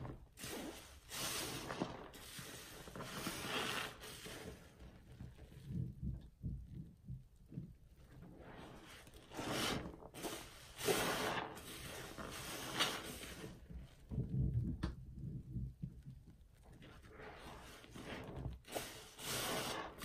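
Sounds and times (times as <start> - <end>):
soapy sponge squelching: 0.0 - 14.4, 15.2 - 20.0
frothy crackling sponge squeezes: 0.0 - 20.0.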